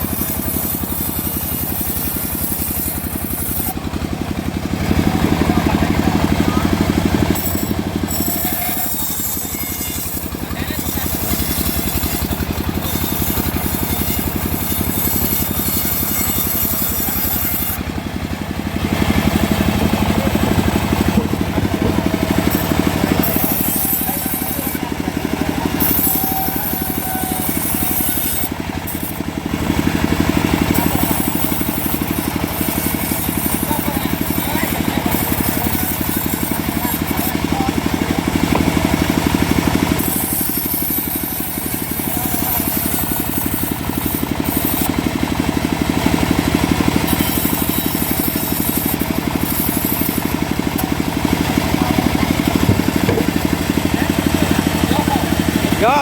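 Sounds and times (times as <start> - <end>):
saw rasping through wood: 0.0 - 56.0
sawmill mechanical drone: 0.0 - 56.0.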